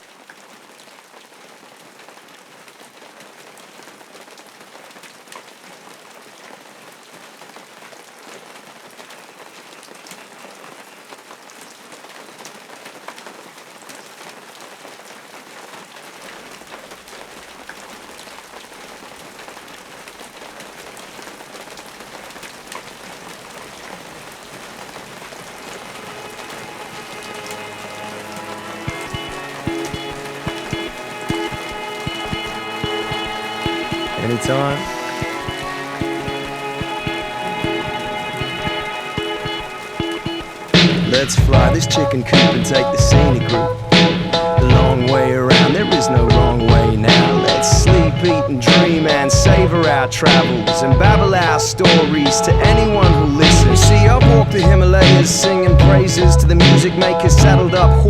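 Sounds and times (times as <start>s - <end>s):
rain-like hiss with patters: 0.0s - 52.7s.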